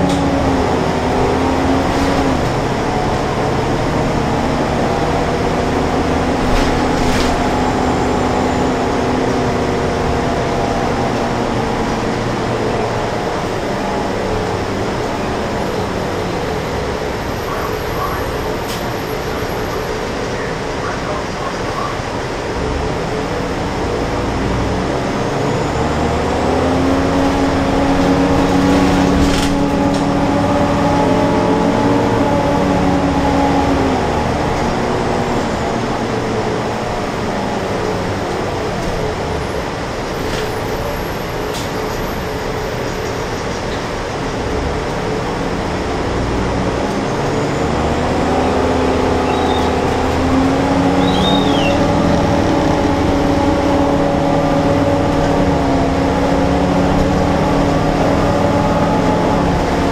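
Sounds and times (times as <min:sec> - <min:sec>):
bus engine hum: 0:00.0 - 0:59.9
bus road rumble and rattle: 0:00.0 - 0:59.9.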